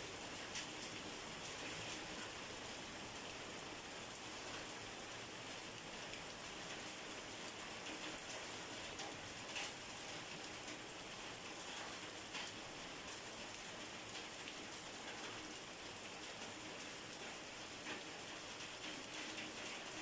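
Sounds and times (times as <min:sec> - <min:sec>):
rain drop hits: 0:00.0 - 0:20.0
steady rain hiss: 0:00.0 - 0:20.0.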